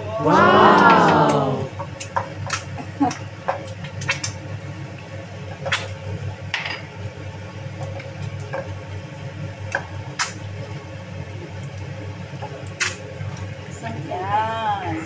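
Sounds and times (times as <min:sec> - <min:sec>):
eggs sizzling in oil: 0:00.6 - 0:15.0.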